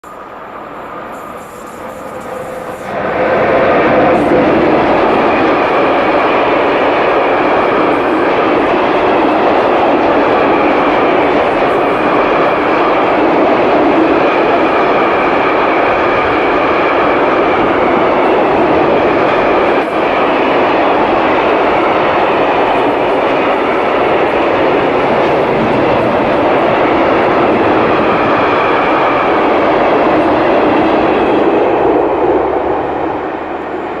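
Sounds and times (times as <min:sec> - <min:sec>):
freight train rolling past: 0:00.0 - 0:34.0
wheel and rail noise: 0:00.0 - 0:34.0.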